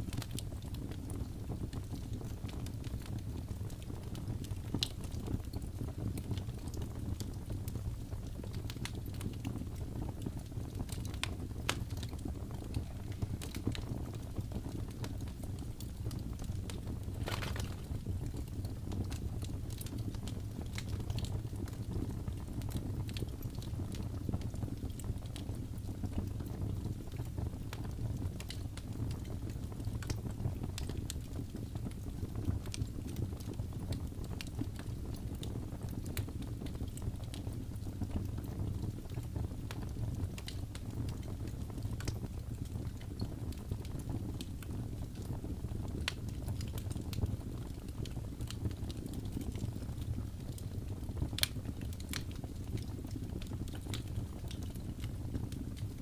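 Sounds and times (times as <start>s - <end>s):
low rumble of fire: 0.0s - 56.0s
wood fire crackling and popping: 0.0s - 56.0s.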